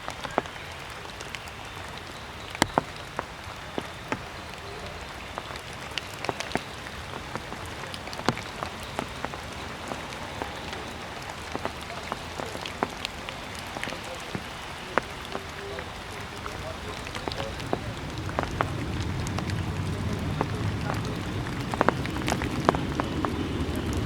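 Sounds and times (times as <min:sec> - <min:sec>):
raindrops dripping: 0:00.0 - 0:24.0
steady hiss: 0:00.0 - 0:24.0.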